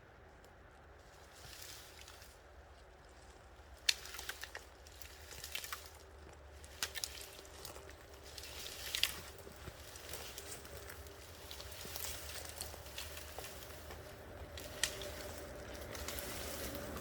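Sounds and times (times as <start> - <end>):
twigs crackling and snapping: 0.2 - 17.0.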